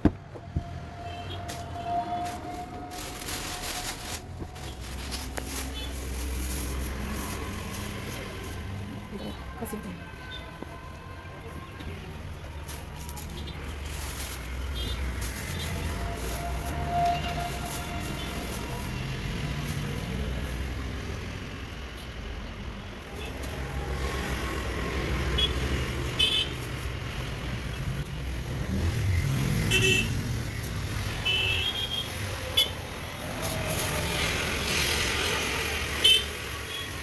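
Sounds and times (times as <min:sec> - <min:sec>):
road traffic running past: 0:00.0 - 0:37.0.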